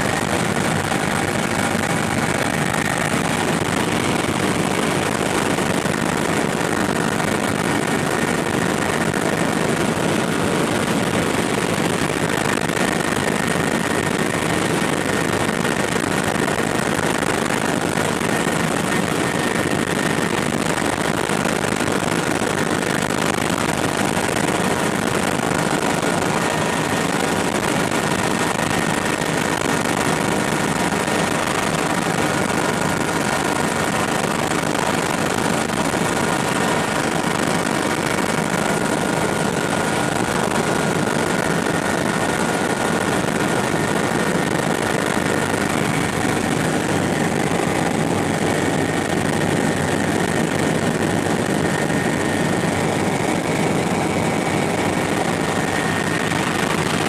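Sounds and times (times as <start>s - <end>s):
helicopter rotor and engine din: 0.0s - 57.0s.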